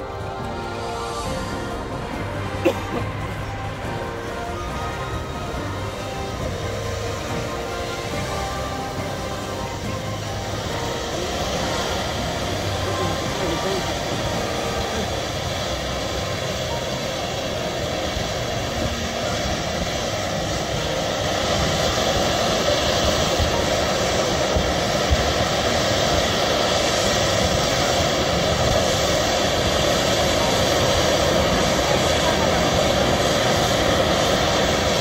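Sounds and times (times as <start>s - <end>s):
firework spewing sparks hissing: 0.0s - 35.0s.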